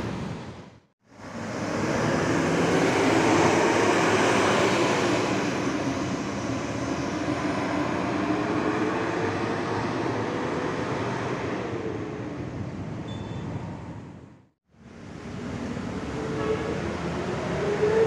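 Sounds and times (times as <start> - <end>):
bus engine and exhaust: 0.0 - 18.0.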